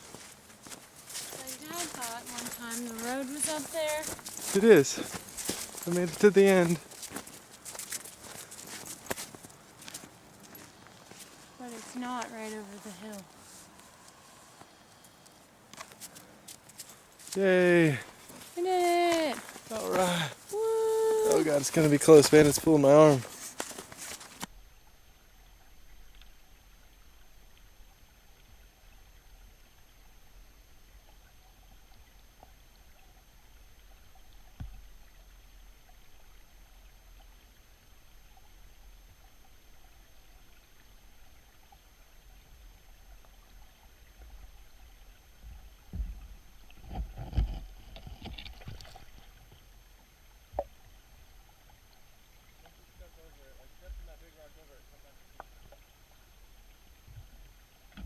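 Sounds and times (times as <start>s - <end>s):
creek flowing: 0.0s - 58.0s.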